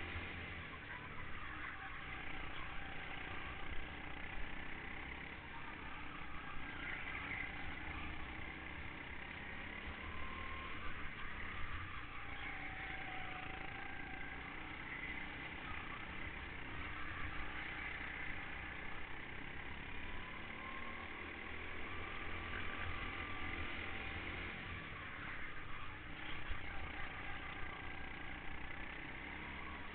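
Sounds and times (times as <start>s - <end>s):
go-kart engine running: 0.0s - 29.9s.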